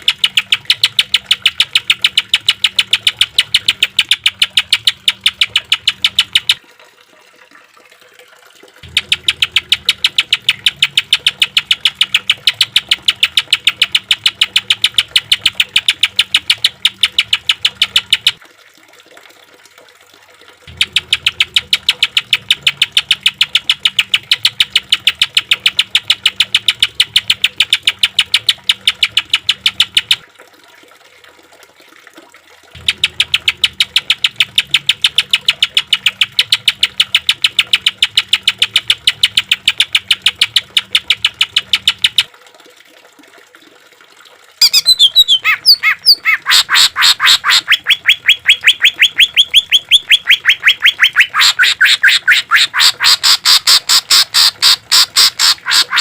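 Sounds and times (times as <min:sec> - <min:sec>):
bird calling in rapid sharp notes: 0:00.0 - 0:06.6, 0:08.8 - 0:18.4, 0:20.7 - 0:30.2, 0:32.8 - 0:42.3, 0:44.6 - 0:56.0.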